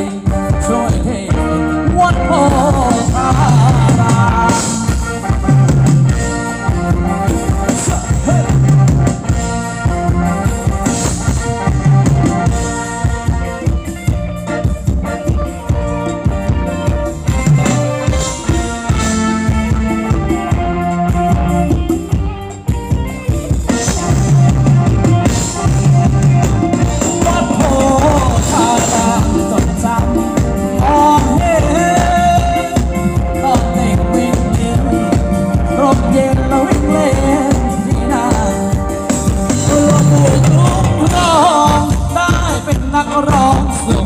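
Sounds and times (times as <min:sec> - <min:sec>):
drum kit beat: 0:00.0 - 0:44.0
live band dance music: 0:00.0 - 0:44.0.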